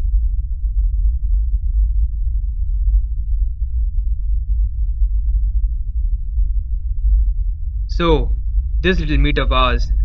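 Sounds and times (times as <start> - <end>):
deep bass drone: 0.0 - 10.0.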